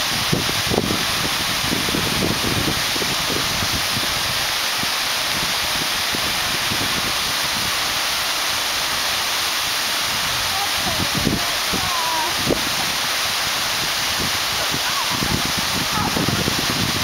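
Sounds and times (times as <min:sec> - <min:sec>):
waterfalls rushing over rocks: 0:00.0 - 0:17.0.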